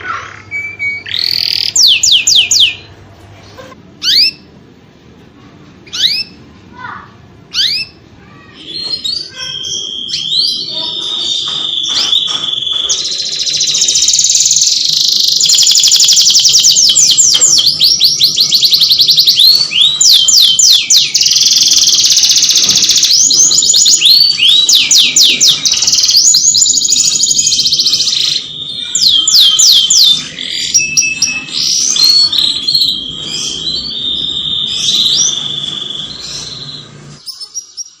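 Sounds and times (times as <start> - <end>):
canary singing: 0.0 - 4.6, 5.8 - 38.0.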